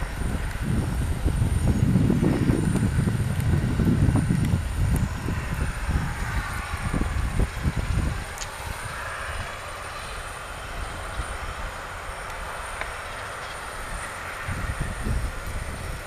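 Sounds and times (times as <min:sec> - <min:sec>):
low rumble gusts: 0:00.0 - 0:16.0
propeller aircraft engines droning: 0:00.0 - 0:16.0.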